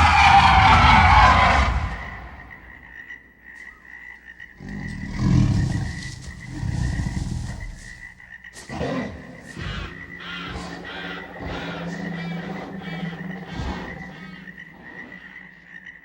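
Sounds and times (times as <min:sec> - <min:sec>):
low rattling croaking growls: 0:00.0 - 0:03.1, 0:04.4 - 0:16.0.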